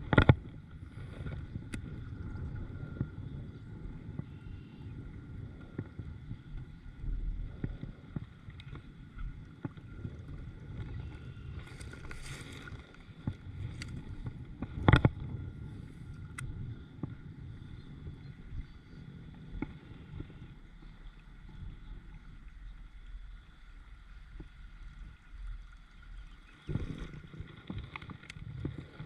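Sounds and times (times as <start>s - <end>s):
wind on microphone: 0.0s - 22.4s, 26.6s - 29.0s
water around a kayak: 0.0s - 29.0s.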